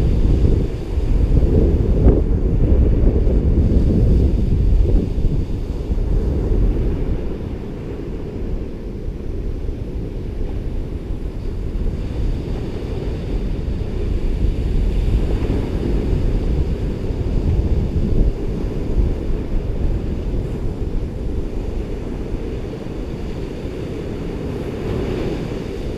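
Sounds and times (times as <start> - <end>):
ocean surf on a beach: 0.0 - 25.9
wind rumble on microphone: 0.0 - 25.9.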